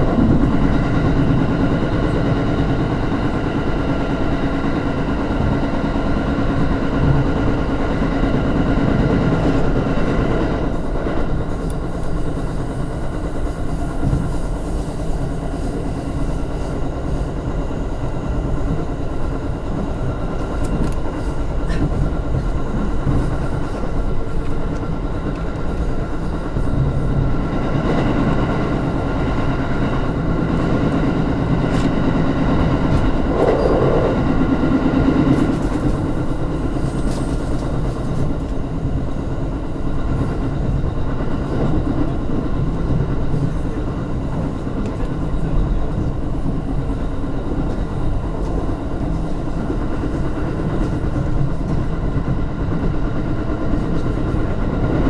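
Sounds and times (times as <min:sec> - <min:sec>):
constant train hum: 0:00.0 - 0:55.0
wheels rumbling on rail: 0:00.0 - 0:55.0.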